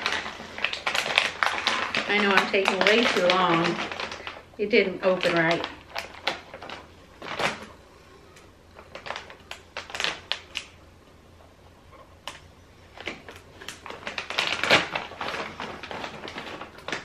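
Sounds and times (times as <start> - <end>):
plastic bag crackling: 0.0 - 7.9, 8.5 - 10.9, 12.0 - 17.0.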